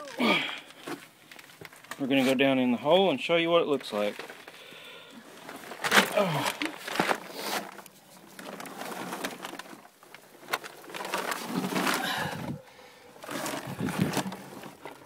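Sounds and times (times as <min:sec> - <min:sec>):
scraping and shuffling in dirt: 0:00.0 - 0:15.0.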